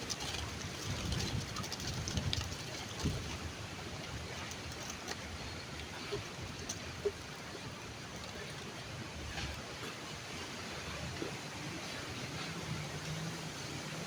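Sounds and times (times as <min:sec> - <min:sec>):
flowing stream water: 0:00.0 - 0:14.0.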